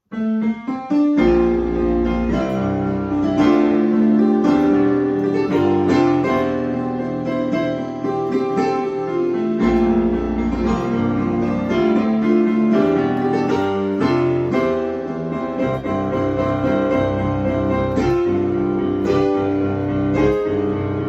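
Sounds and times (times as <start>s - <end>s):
keyboard chords: 0.1s - 21.0s.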